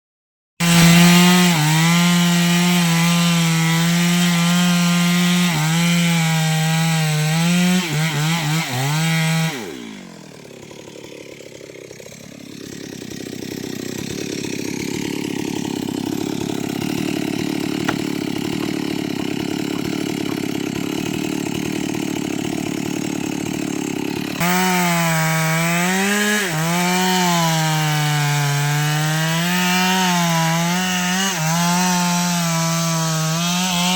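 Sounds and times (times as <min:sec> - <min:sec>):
chainsaw cutting wood: 0:00.6 - 0:33.9.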